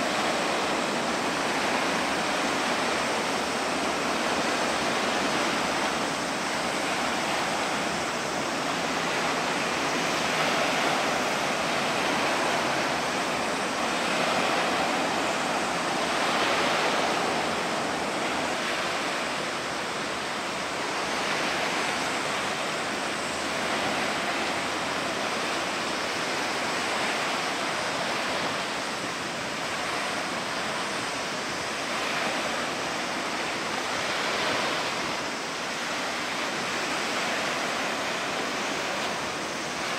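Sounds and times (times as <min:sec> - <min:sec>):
sea water rushing: 0:00.0 - 0:39.9.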